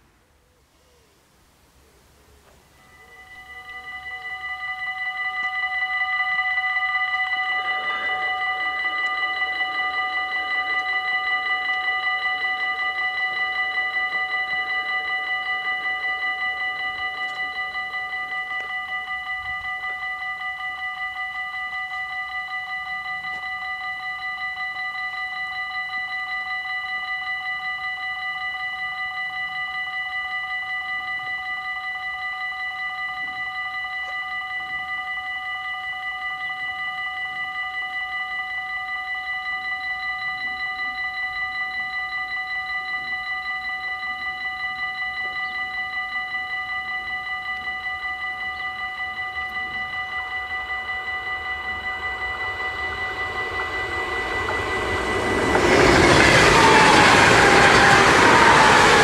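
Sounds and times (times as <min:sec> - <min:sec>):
level crossing warning bells: 0:02.4 - 0:59.0.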